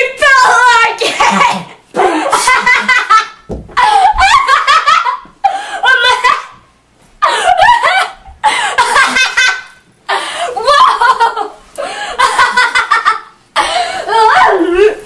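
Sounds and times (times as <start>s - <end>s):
girl laughing hard: 1.0s - 6.6s, 7.2s - 15.0s.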